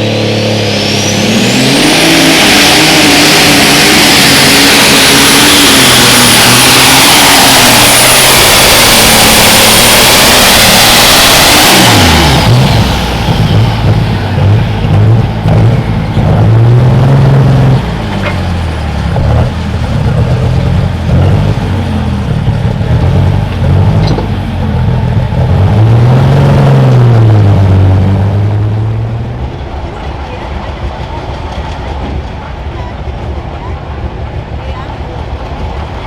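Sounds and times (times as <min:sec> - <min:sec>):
tractor engine revving: 0:00.0 - 0:32.3.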